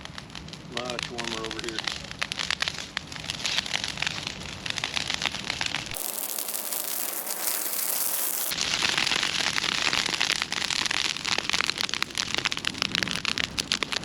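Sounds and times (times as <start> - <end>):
bush fire crackling: 0.0 - 14.0.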